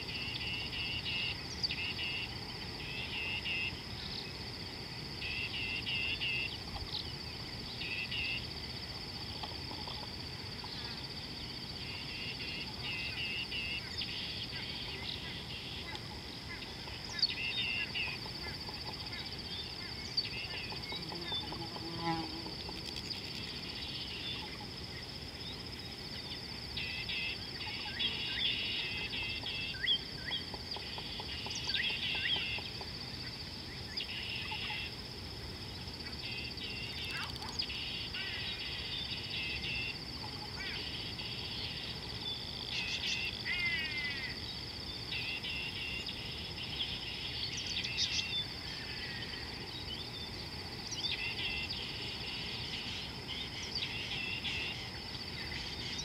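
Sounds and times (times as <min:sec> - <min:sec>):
birds calling and chattering: 0:05.2 - 0:34.9, 0:35.7 - 0:56.0.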